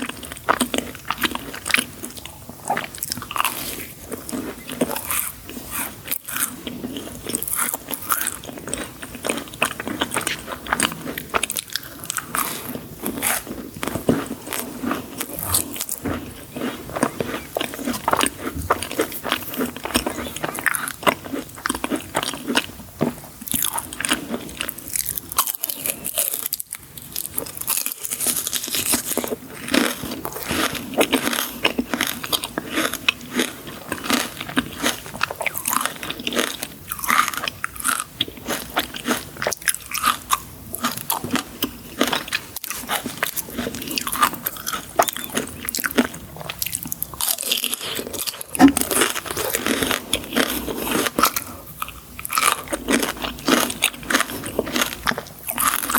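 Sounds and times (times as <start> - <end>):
person chewing crunchy sweets: 0.0 - 55.9.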